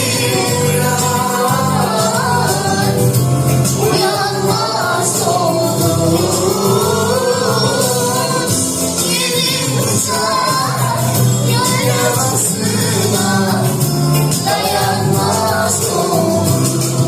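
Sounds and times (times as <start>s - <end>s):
instrumental backing with bass: 0.0s - 17.0s.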